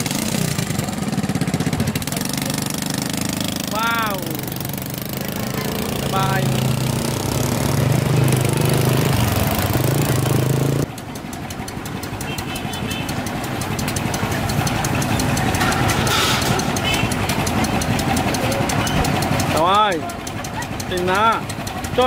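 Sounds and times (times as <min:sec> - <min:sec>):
rapid even ticking: 0:00.0 - 0:22.0
small engine idling: 0:00.0 - 0:22.0.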